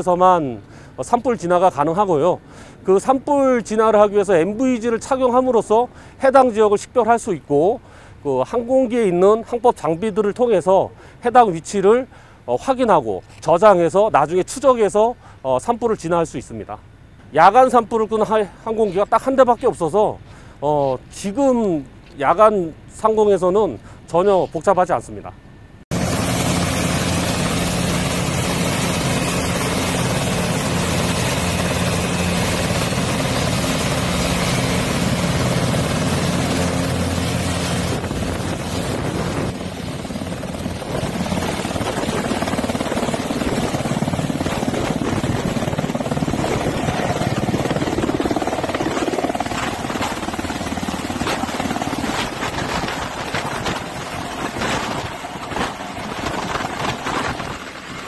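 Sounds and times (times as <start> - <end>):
helicopter engine and rotor hum: 0.0 - 58.0.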